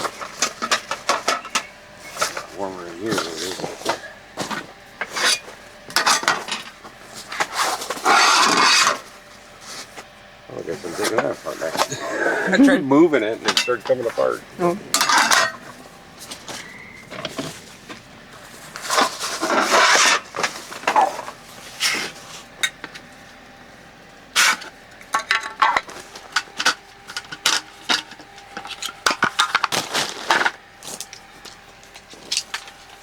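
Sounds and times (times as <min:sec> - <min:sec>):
rustling and scraping: 0:00.0 - 0:23.4, 0:24.4 - 0:33.0.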